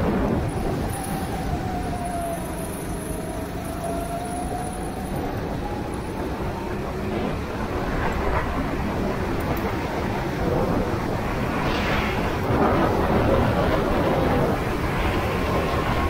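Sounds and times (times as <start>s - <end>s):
rushing noise: 0.0s - 16.0s.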